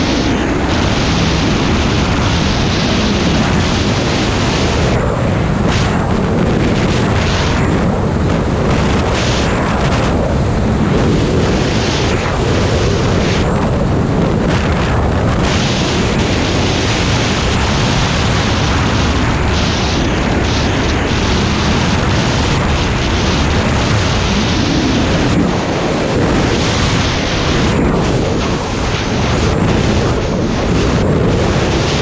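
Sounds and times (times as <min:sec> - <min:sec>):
snowmobile engine and track noise: 0:00.0 - 0:32.0
wind buffeting microphone: 0:00.0 - 0:32.0.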